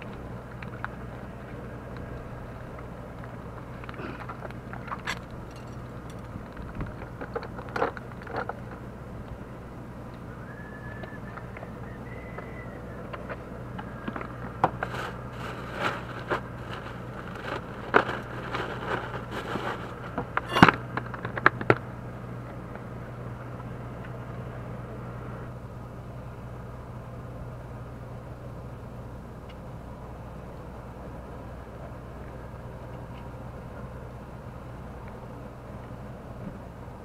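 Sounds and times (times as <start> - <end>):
outdoor background noise: 0.0 - 37.0
steady low hum: 0.0 - 37.0.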